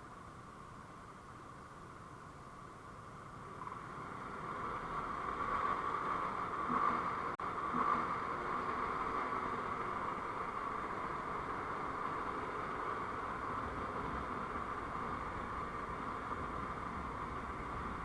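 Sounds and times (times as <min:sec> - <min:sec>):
vehicle road and wind noise: 0:00.0 - 0:18.0.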